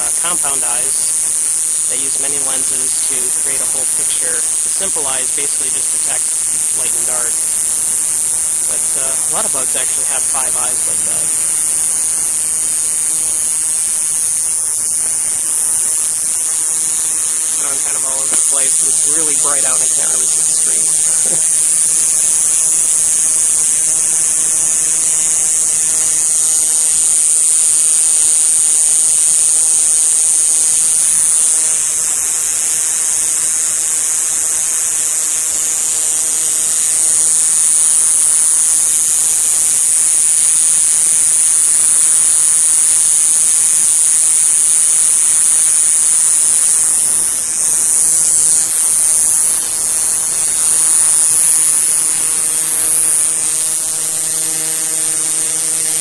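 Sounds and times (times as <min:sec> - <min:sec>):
cicada buzzing: 0:00.0 - 0:56.0.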